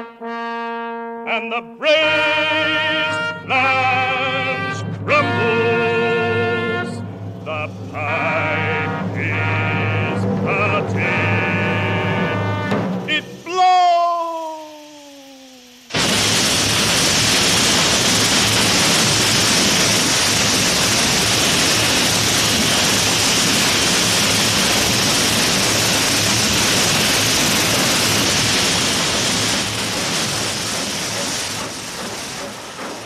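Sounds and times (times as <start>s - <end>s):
steam hissing from pipe: 2.0s - 33.0s.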